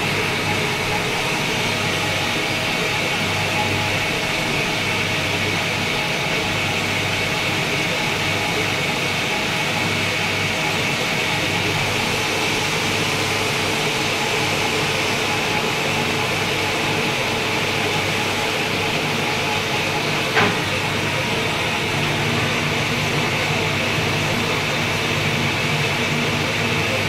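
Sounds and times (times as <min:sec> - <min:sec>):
lathe humming and whining: 0:00.0 - 0:27.0.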